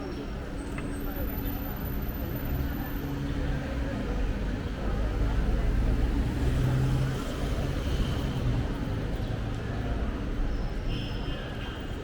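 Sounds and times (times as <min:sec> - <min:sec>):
city street noise: 0:00.0 - 0:12.0.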